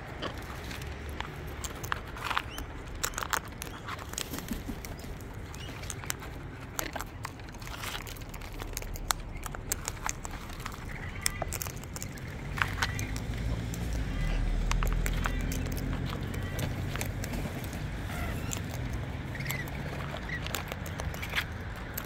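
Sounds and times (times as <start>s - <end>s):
beaks cracking seeds: 0.0s - 22.0s.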